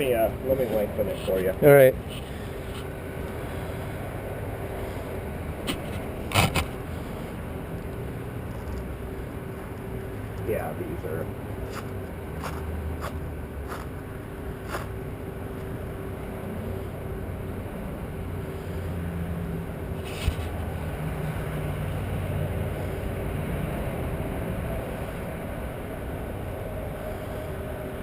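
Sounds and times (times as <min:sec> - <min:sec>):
engine idling hum: 0:00.0 - 0:28.0.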